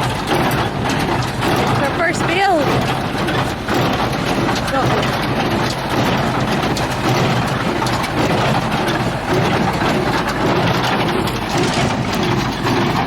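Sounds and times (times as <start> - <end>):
hay baler working: 0.0 - 13.0
tractor diesel engine running: 0.0 - 13.0.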